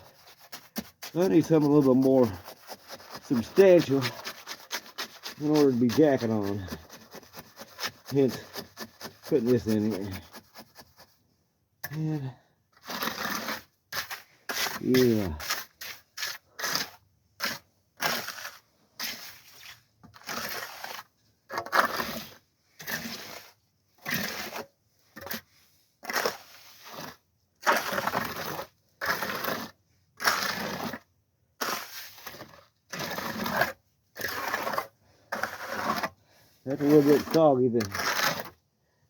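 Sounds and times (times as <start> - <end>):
trowel scraping wet concrete: 0.0 - 11.2, 11.8 - 38.7.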